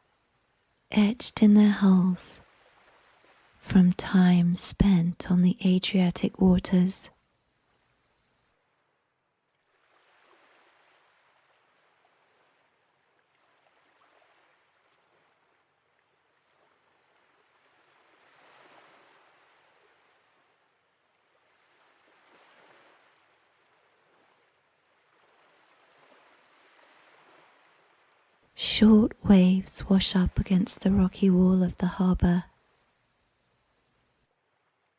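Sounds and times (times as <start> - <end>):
faint sea waves lapping: 0.0 - 5.0, 7.5 - 34.9.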